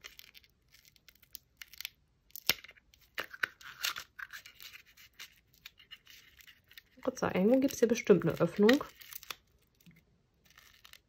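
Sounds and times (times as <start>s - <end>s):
cellophane crinkling: 0.0s - 11.0s.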